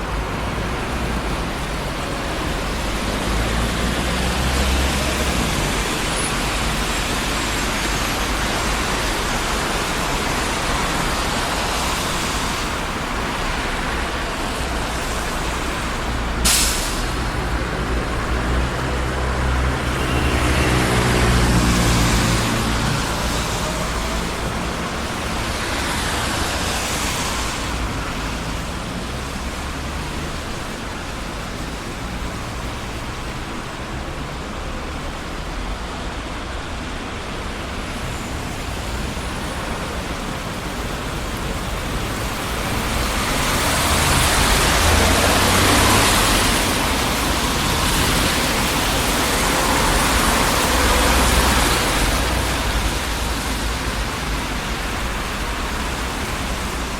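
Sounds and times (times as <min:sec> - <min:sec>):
city street traffic: 0:00.0 - 0:56.9.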